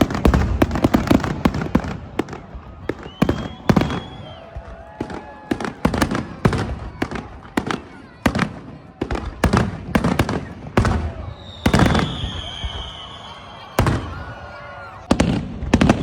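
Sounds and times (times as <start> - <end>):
fireworks bangs: 0.0 - 16.0
fireworks crackling: 0.0 - 16.0.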